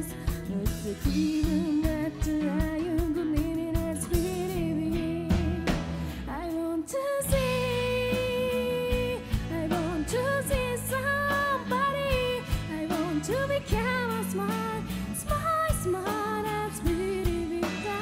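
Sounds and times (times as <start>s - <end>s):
rock band playing: 0.0s - 6.6s, 7.2s - 18.0s
woman singing: 0.0s - 18.0s.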